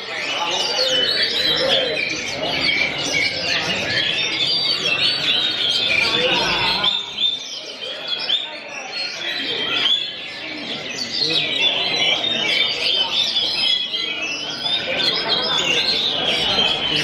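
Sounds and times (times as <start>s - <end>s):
songbirds whistling and chirping: 0.0s - 17.0s.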